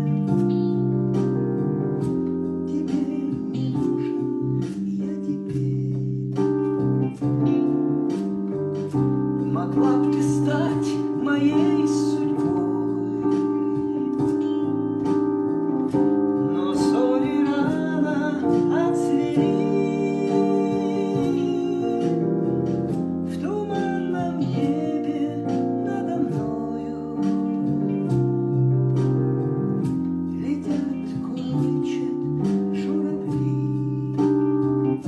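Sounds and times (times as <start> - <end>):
song with keyboard chords: 0.0 - 35.0.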